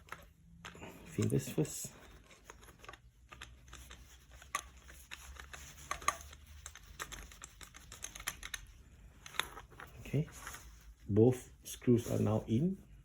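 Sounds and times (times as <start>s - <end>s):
light clicks and handling noise: 0.0s - 11.0s.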